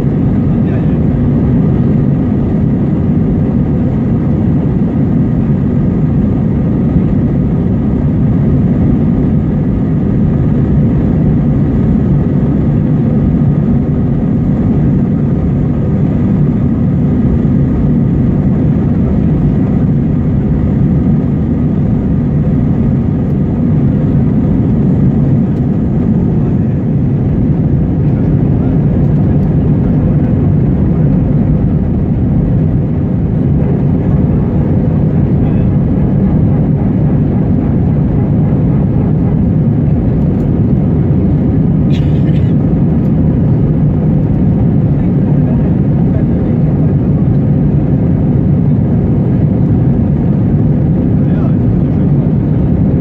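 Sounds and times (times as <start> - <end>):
jet engines low rumble: 0.0 - 53.0.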